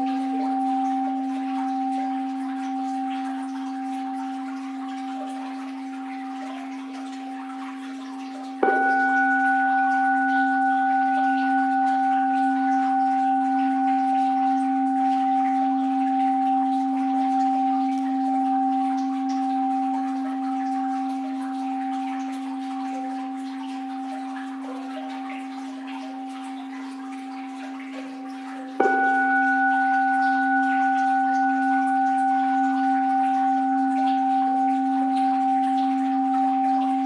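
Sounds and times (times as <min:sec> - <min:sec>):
bowl bell ringing: 0:00.0 - 0:37.0
faint flowing water hiss: 0:00.0 - 0:37.0.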